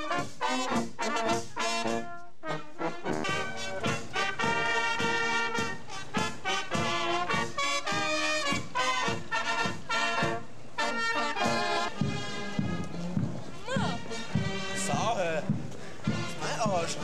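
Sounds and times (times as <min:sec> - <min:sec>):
marching brass band playing: 0:00.0 - 0:17.0.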